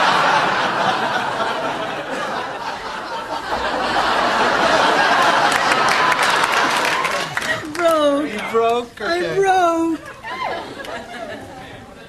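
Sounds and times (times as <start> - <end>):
studio audience laughing: 0.0 - 7.7, 10.0 - 12.0.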